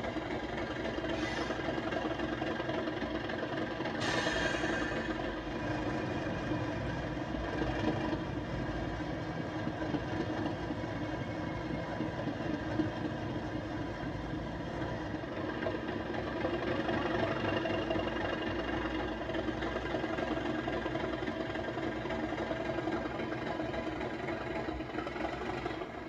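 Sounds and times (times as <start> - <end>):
diesel engine sound from small speaker: 0.0 - 26.0
model train rumbling on track: 0.0 - 26.0.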